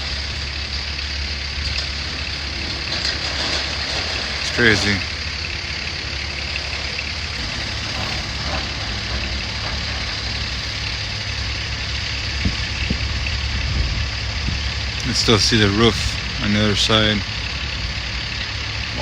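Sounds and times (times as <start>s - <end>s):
diesel engines rumbling: 0.0s - 19.0s.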